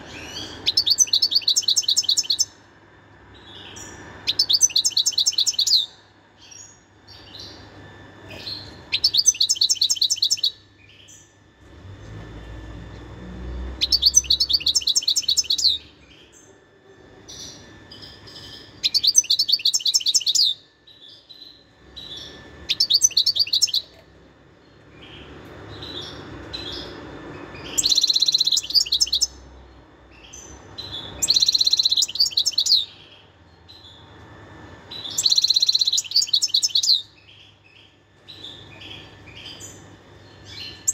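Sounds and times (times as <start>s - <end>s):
goldfinch singing trills: 0.0s - 2.6s, 3.4s - 7.6s, 8.4s - 11.3s, 13.7s - 16.5s, 17.3s - 24.0s, 24.6s - 29.5s, 30.1s - 34.0s, 34.9s - 40.9s
soft scattered bird notes: 0.0s - 40.9s.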